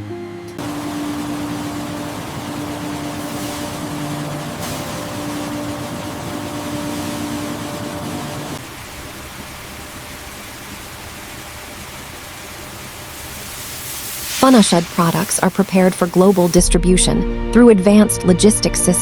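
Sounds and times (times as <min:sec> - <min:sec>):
low machinery hum: 0:00.0 - 0:16.6
machine hiss: 0:00.6 - 0:16.6.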